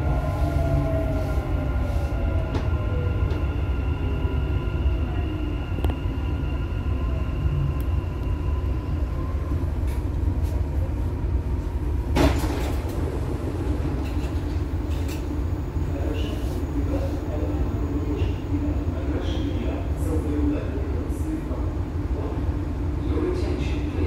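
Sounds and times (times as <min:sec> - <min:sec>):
train wheels rumbling on rail: 0:00.0 - 0:06.6, 0:07.2 - 0:24.0.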